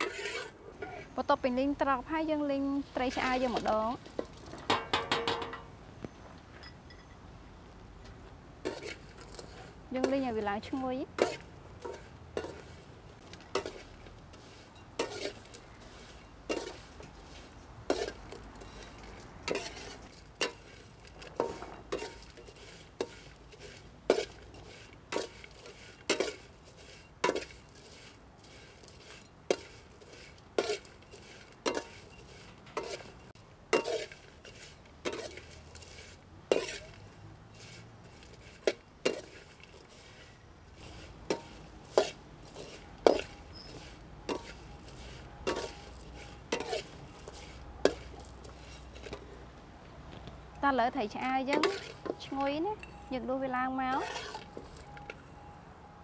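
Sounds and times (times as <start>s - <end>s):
metal spatula scraping wok: 0.0s - 5.7s, 8.6s - 49.4s, 50.7s - 55.2s.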